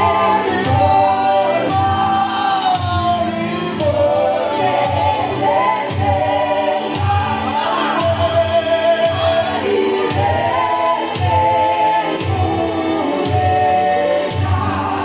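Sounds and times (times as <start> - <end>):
choir singing gospel: 0.0 - 15.0.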